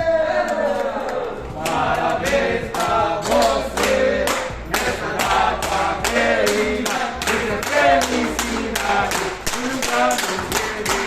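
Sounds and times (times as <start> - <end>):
group singing a birthday song: 0.0 - 11.0
rhythmic clapping: 0.0 - 11.0.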